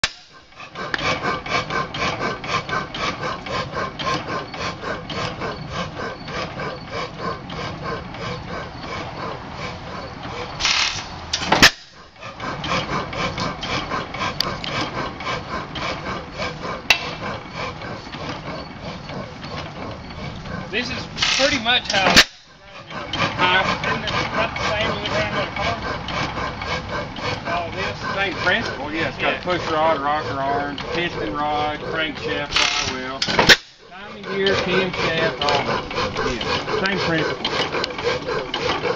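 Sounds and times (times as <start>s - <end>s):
gas engine beating: 0.0s - 38.9s.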